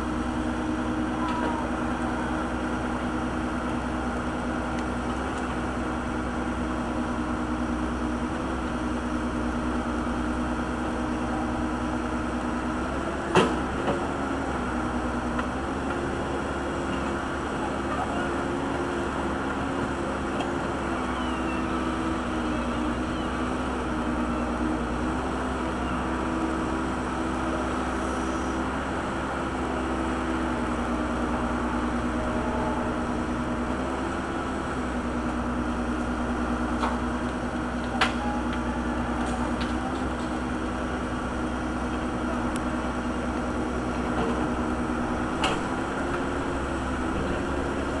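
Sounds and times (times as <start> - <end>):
backhoe engine running: 0.0 - 48.0.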